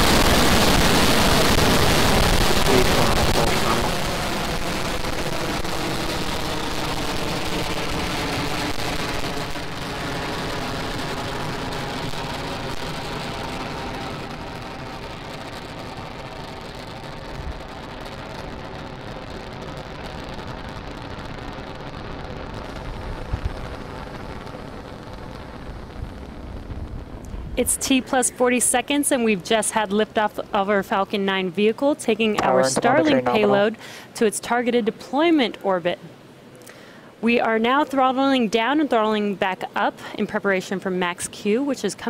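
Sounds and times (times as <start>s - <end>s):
rocket engines rumbling and crackling: 0.0s - 34.5s.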